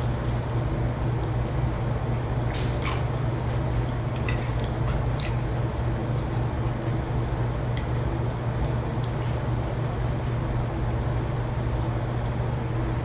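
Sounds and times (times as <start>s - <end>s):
chewing crunchy chips: 0.0s - 1.6s, 2.4s - 10.2s, 11.4s - 12.6s
steady low hum: 0.0s - 13.0s.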